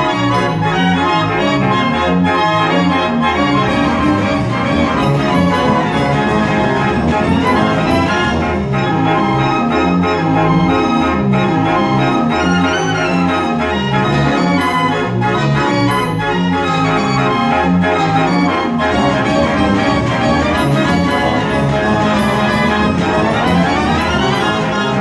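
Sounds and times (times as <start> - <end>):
fair organ playing rock and roll: 0.0 - 25.0.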